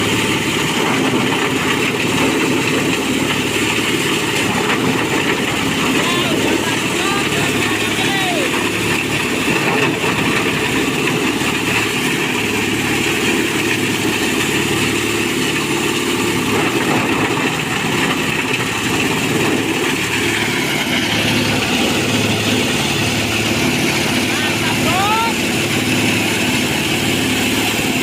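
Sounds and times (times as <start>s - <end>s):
engine-driven chopper-grinder running: 0.0s - 28.0s.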